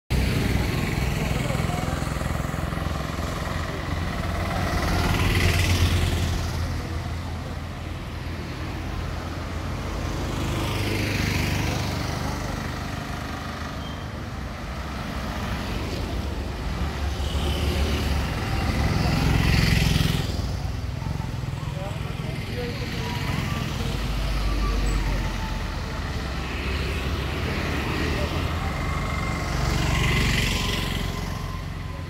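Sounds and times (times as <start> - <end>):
road traffic passing: 0.1 - 32.0.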